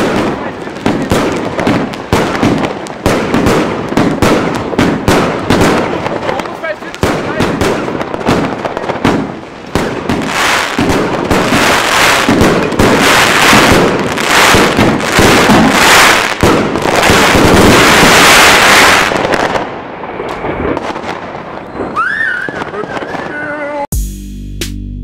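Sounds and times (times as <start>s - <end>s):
fireworks firing barrage: 0.0s - 23.9s.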